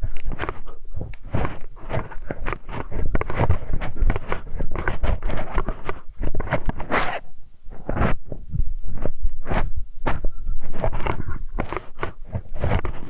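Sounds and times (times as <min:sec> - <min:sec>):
wrench scraping microphone: 0:00.0 - 0:13.0.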